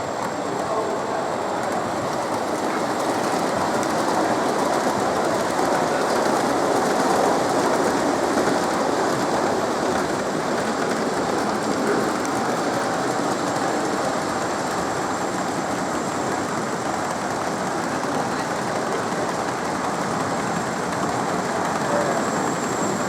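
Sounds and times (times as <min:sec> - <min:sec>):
model train wheels rattling: 0:00.2 - 0:23.0.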